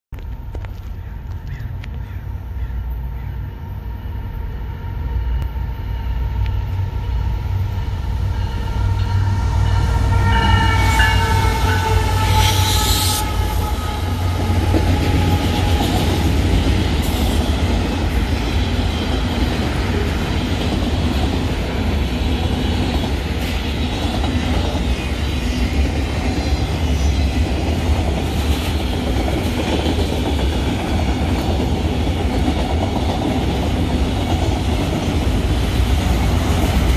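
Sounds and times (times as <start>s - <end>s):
diesel locomotive engine rumble: 0.2s - 36.9s
freight cars rumbling on rails: 0.2s - 36.9s
train clanks: 6.4s - 36.9s.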